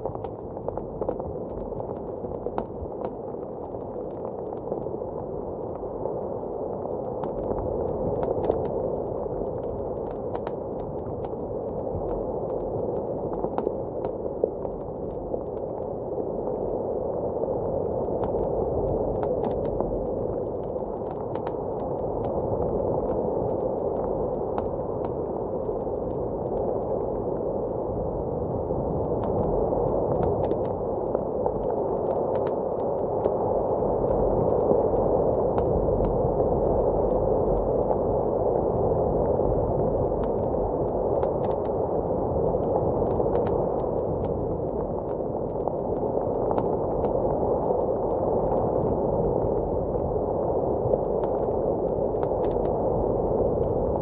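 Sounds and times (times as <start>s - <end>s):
muffled blizzard wind: 0.0s - 54.0s.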